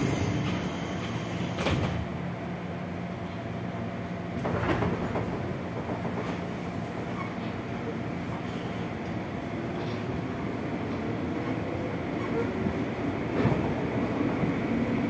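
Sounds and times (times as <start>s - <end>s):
train equipment hum: 0.0s - 15.0s.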